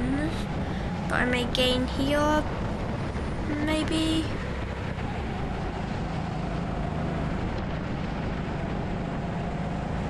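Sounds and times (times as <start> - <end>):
rushing wind noise: 0.0 - 10.0.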